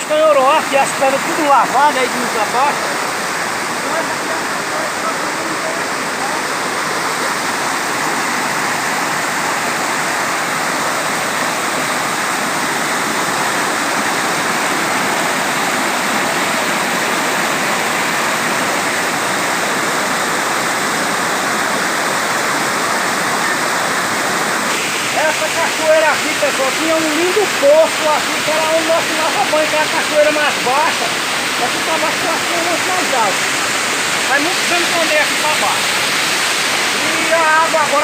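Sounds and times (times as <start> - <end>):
waterfall pouring over rocks: 0.0 - 38.0.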